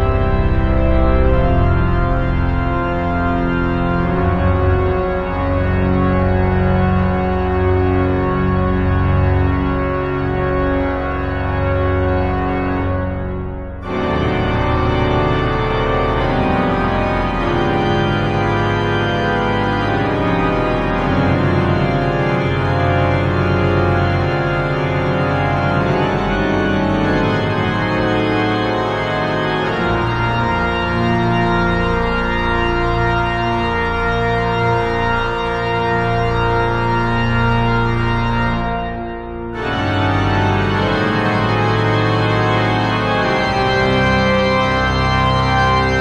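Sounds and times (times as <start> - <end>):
pipe organ chords: 0.0 - 46.0
repeated low organ notes: 0.0 - 46.0.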